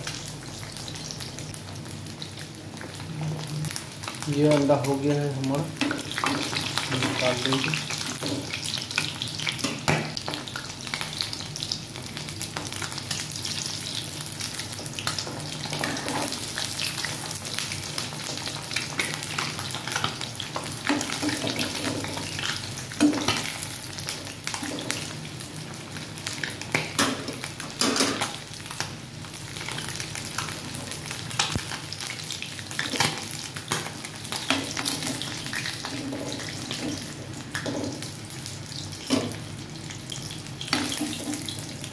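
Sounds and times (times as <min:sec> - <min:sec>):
food deep-frying in hot oil: 0:00.0 - 0:41.9.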